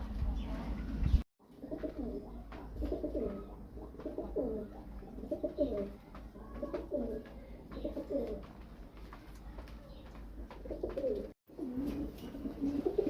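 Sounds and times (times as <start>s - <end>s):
pigeons cooing: 0.0s - 8.5s, 9.9s - 13.0s.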